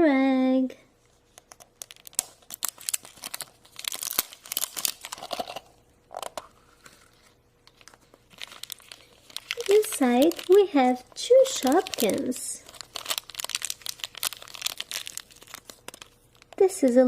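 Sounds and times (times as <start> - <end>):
wrapper crinkling and tearing: 1.3 - 17.0.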